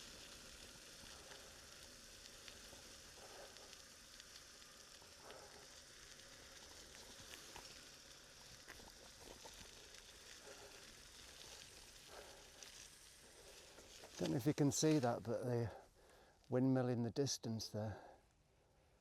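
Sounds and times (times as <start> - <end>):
faint ticks: 0.0 - 16.6
faint outdoor hiss: 0.0 - 19.0.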